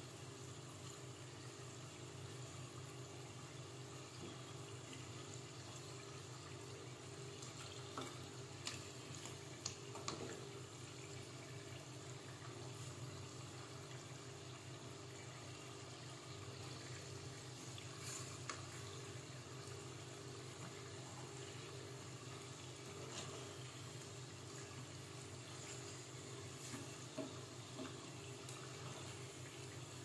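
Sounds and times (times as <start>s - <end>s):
deep-frying sizzle in hot oil: 0.0s - 30.0s.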